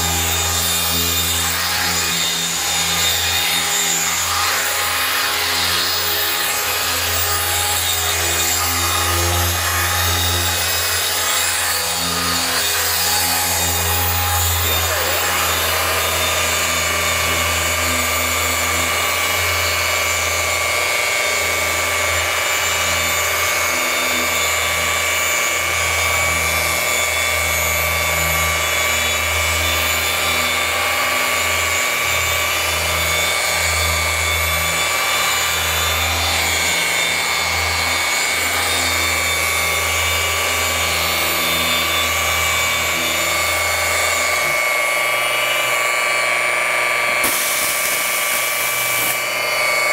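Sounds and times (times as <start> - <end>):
polishing machine whining: 0.0 - 49.9.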